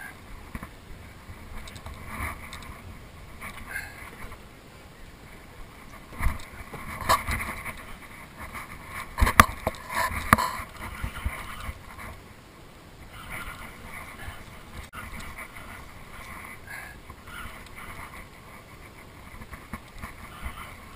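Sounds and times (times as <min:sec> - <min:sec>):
steady background hiss: 0:00.0 - 0:20.9.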